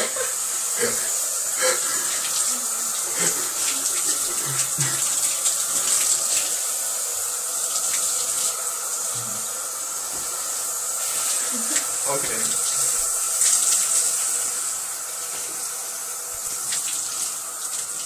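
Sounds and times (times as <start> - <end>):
water running into bathtub: 0.0 - 18.0.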